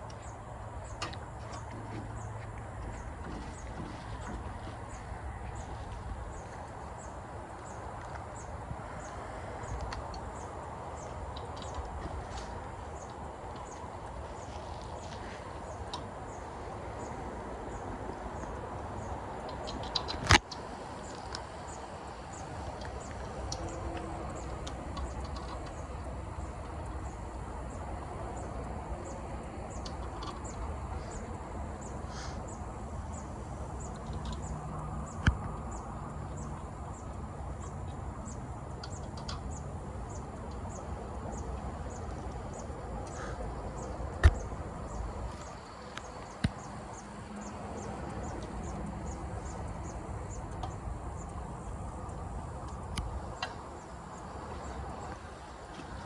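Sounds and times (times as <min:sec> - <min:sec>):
high chirps of birds or insects: 0:00.0 - 0:56.0
outdoor background noise: 0:00.0 - 0:56.0.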